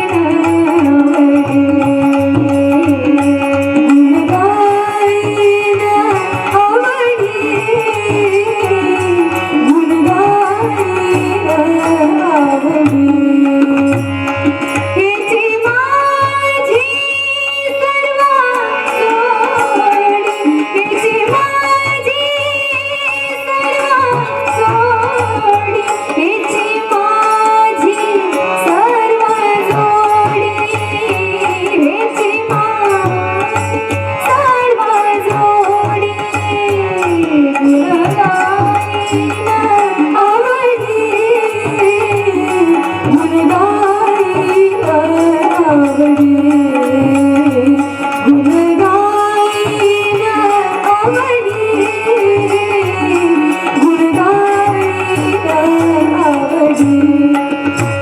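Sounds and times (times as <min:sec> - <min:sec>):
tabla drum strokes: 0:00.0 - 0:58.0
woman singing devotional song: 0:00.0 - 0:58.0.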